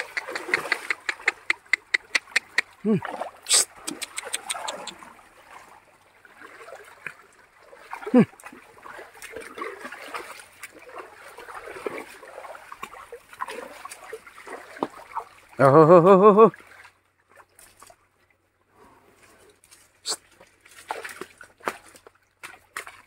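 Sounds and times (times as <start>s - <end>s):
splashing: 0.0s - 18.3s, 19.1s - 23.0s.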